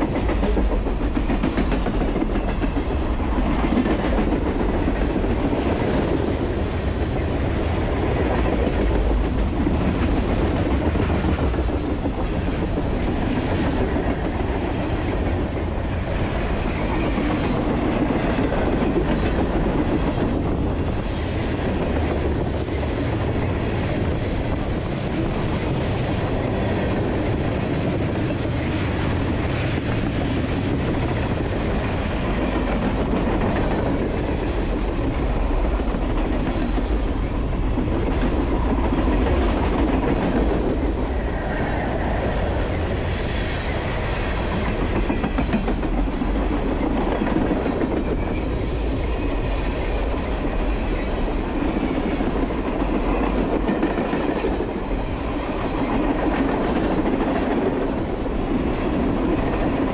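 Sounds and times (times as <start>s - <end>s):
freight train rolling past: 0.0s - 59.9s
steel wheels on rails: 0.0s - 59.9s.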